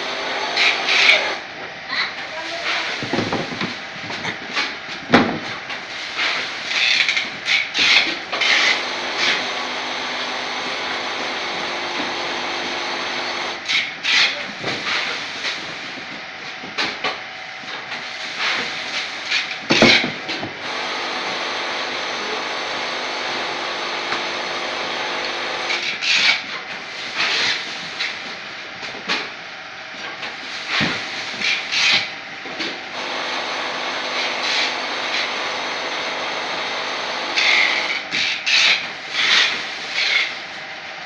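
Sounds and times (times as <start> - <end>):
packing machine humming: 0.0 - 41.0.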